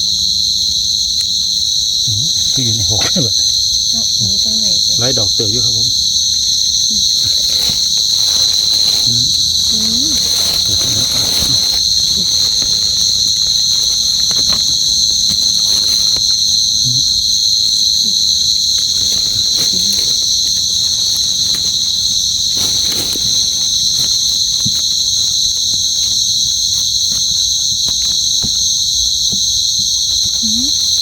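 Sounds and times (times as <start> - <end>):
crickets chirping: 0.0 - 31.0
faint clicks and rustles: 0.1 - 31.0.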